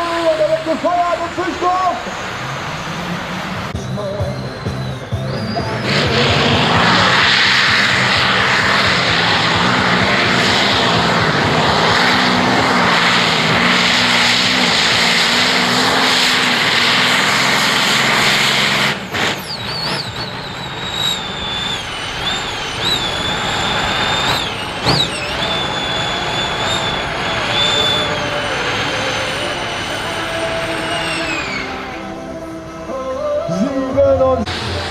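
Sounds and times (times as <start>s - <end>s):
pulling tractor engine at full throttle: 0.0s - 34.9s.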